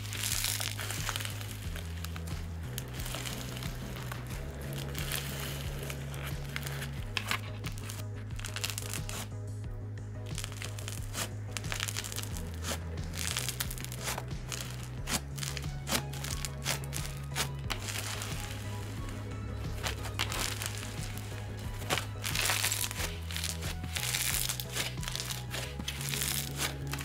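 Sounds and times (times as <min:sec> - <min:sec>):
crunchy slime crackles: 0:00.0 - 0:09.3, 0:10.2 - 0:27.0
background music with bass line: 0:00.0 - 0:27.0.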